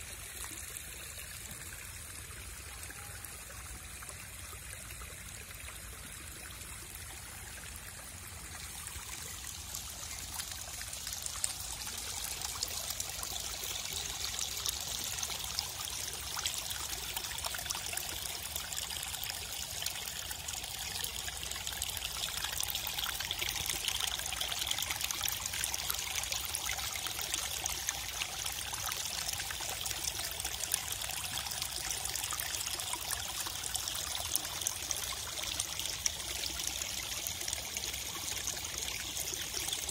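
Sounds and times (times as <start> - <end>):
rainwater trickling and pouring: 0.0 - 39.9.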